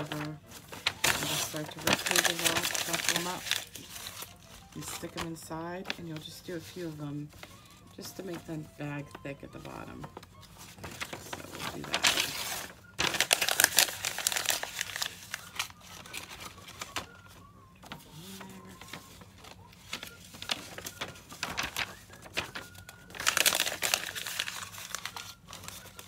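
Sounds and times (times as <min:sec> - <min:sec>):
paper being crumpled: 0:00.0 - 0:26.0
paper rustling: 0:00.0 - 0:26.0.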